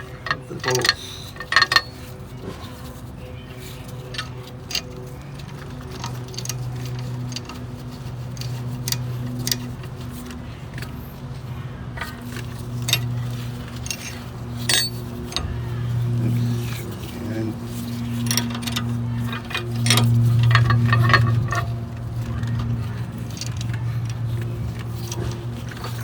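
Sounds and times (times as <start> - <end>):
metal parts clinking and tapping: 0.0 - 11.0, 12.0 - 26.0
steady low hum: 0.0 - 26.0.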